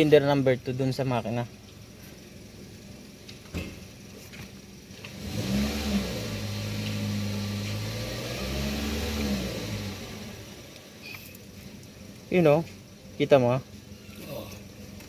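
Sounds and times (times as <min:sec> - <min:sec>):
car engine idling rough and revving: 0:00.0 - 0:15.0.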